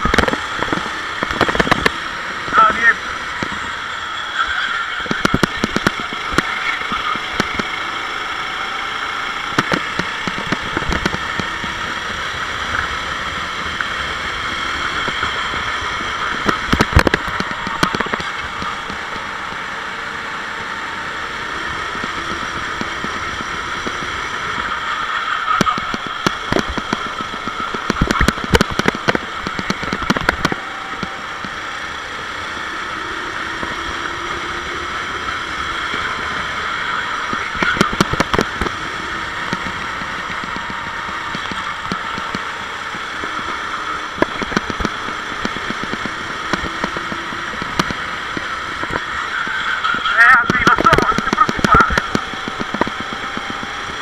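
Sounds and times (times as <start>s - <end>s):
engine crackles: 0.0s - 54.0s
kart engine running hard: 0.0s - 54.0s.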